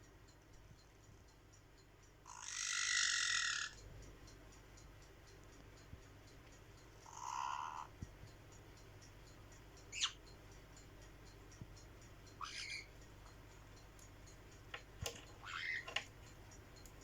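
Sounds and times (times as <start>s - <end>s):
faint high ticking: 0.0s - 17.0s.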